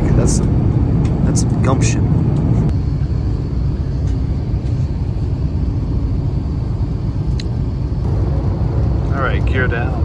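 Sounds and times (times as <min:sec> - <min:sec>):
aircraft cabin engine rumble: 0:00.0 - 0:10.0.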